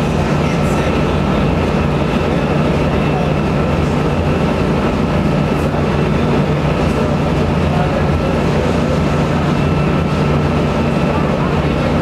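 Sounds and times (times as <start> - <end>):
boat engine droning: 0.0 - 12.0
faint steady whine: 0.0 - 12.0.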